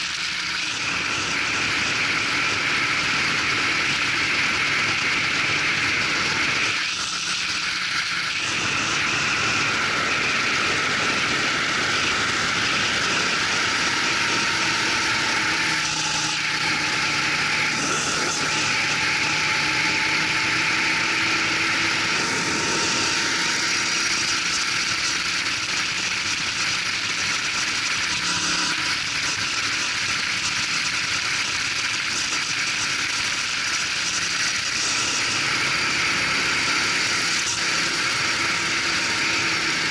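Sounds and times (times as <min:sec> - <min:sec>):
go-kart engine running: 0:00.0 - 0:39.9
wind and road noise: 0:00.0 - 0:39.9.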